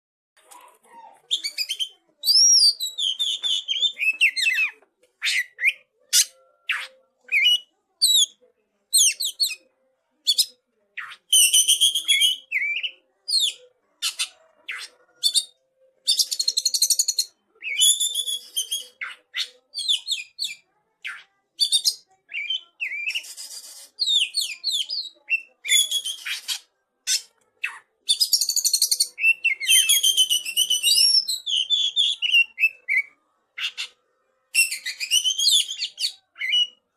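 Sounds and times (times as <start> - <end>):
songbird singing whistles and trills: 1.3 - 8.4, 10.3 - 13.6, 14.7 - 33.9, 34.5 - 36.8.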